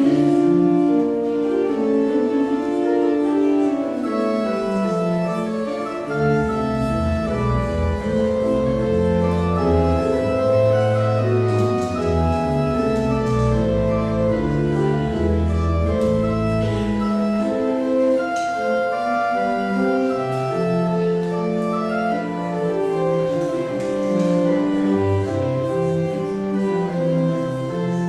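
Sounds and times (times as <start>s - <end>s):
church organ chords: 0.0s - 28.0s
deep organ pedal bass notes: 0.0s - 28.0s.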